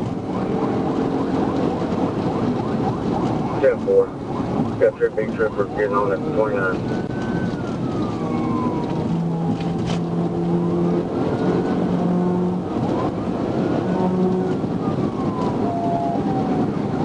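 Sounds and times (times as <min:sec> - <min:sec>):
police siren wailing: 0:00.0 - 0:17.0
road and wind noise: 0:00.0 - 0:17.0.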